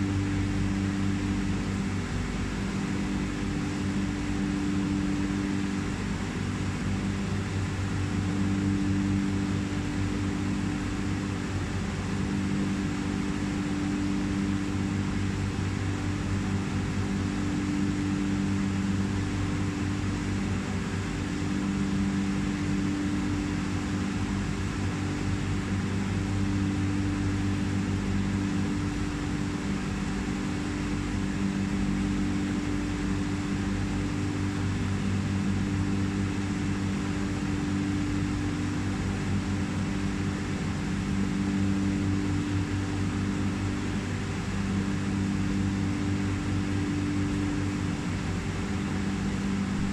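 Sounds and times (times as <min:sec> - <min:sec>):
aquarium pumps humming: 0:00.0 - 0:49.9.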